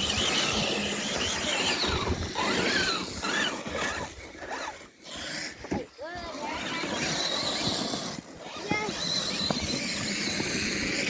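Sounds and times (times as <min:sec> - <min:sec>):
toy truck electric motors whining: 0:00.0 - 0:11.0.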